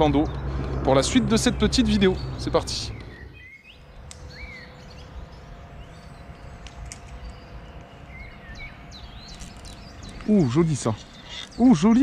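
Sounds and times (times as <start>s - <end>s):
low rumble: 0.0s - 10.3s
bird chirps: 0.0s - 12.0s
faint hum: 0.0s - 12.0s.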